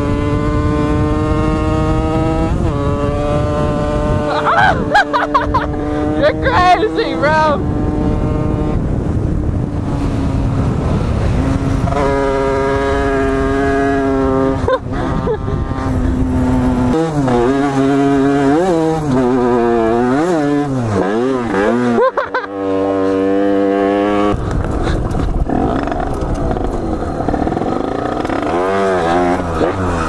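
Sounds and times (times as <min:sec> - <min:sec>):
small motorcycle engine revving: 0:00.0 - 0:30.0.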